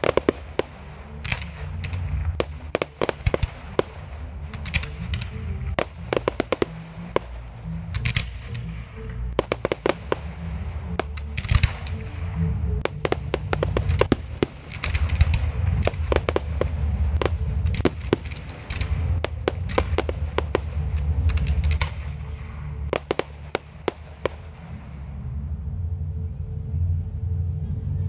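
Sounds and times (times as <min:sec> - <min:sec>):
fireworks bursting: 0:00.0 - 0:25.0
low rumble: 0:00.0 - 0:28.0.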